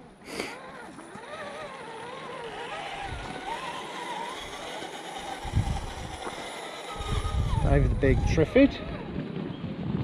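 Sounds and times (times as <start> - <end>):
electric motor whining: 0.0 - 9.2.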